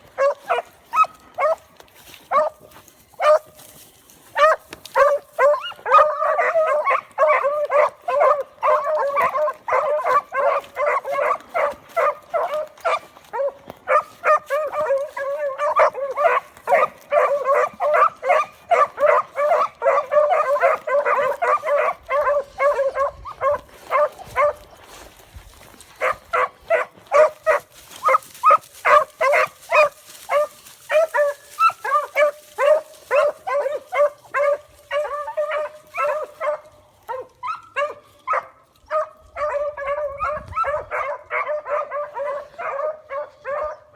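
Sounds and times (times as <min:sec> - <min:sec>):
puppies yipping: 0:04.4 - 0:24.7, 0:26.0 - 0:43.9.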